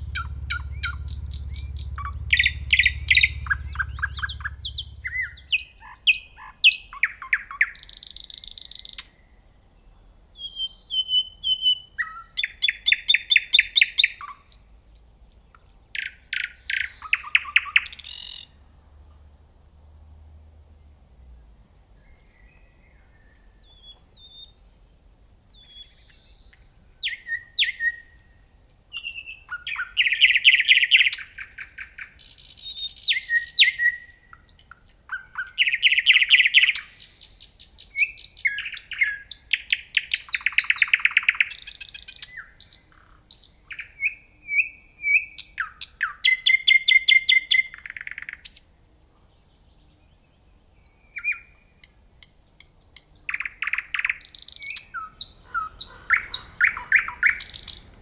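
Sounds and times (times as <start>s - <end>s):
nightingale singing: 0.0s - 18.6s, 21.9s - 58.0s.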